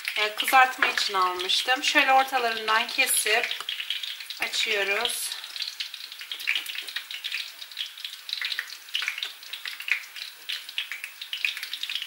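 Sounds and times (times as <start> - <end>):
hot oil sizzling in a frying pan: 0.0 - 12.0.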